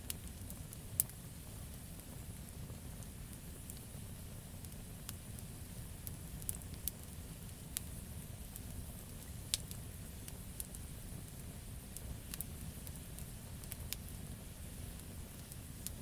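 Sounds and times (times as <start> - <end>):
low rumble of flames: 0.0 - 16.0
campfire crackling and popping: 0.1 - 16.0.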